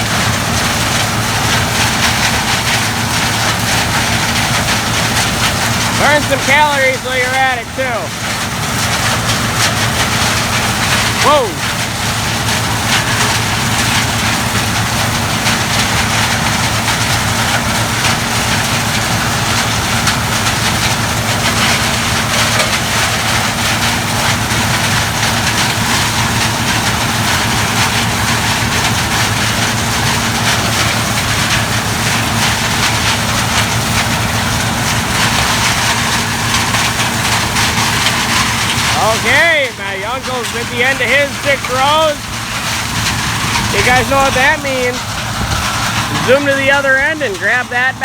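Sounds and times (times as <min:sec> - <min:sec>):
combine engine drone: 0:00.0 - 0:48.0
threshing machine noise: 0:00.0 - 0:48.0.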